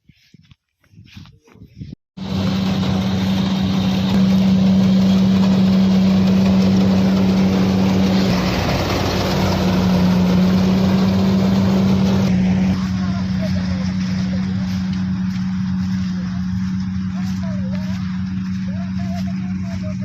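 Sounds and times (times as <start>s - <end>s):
heavy vehicle engine running: 2.2s - 20.0s.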